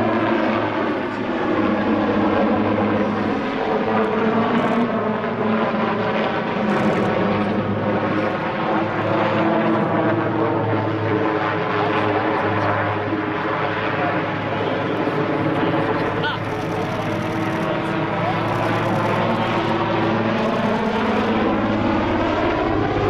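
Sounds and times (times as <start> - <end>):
helicopter droning: 0.0 - 23.0.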